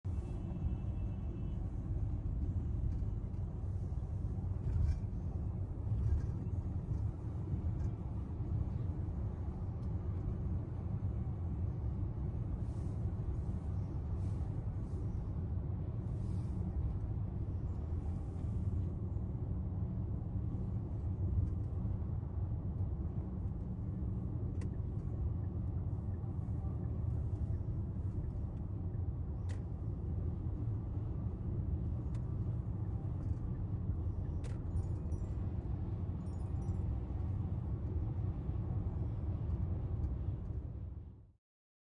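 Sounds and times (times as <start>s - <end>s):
low rumble of road vehicles: 0.0s - 41.4s.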